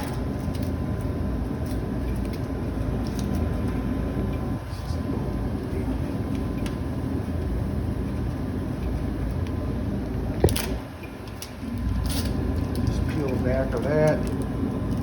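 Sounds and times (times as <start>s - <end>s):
faint steady hum: 0.0s - 15.0s
gas furnace rumbling: 0.0s - 15.0s.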